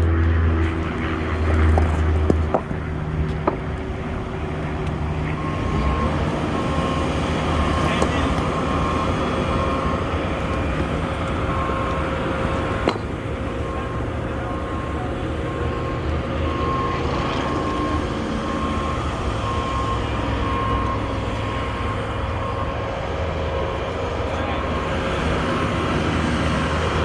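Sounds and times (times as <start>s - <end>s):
skid steer engine running: 0.0s - 27.0s.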